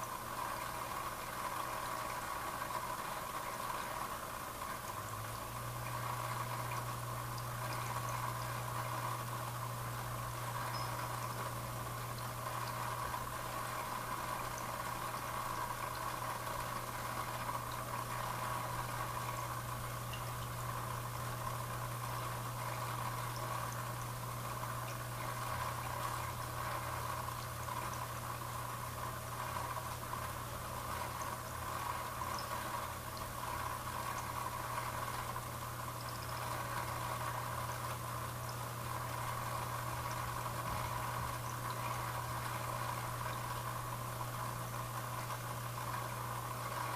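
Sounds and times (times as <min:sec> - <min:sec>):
aquarium filter hum: 0:00.0 - 0:46.9.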